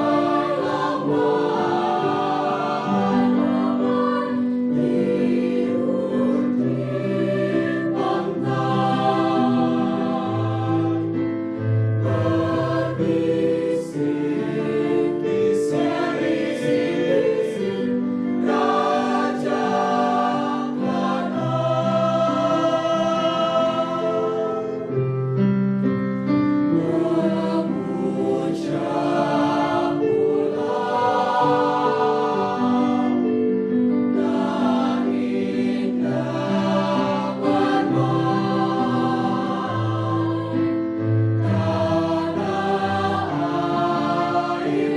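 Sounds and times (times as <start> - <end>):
choir singing in harmony: 0.0 - 44.9.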